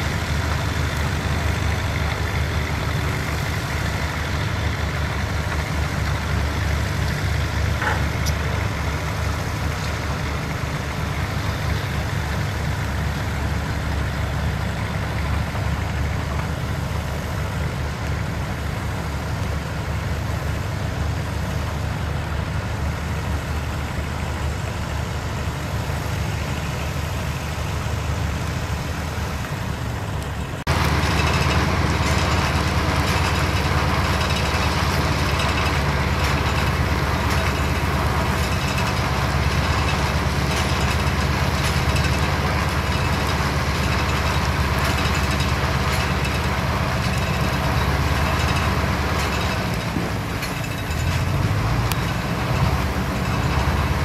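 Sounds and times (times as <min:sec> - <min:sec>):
diesel machinery engines rumbling: 0:00.0 - 0:54.0.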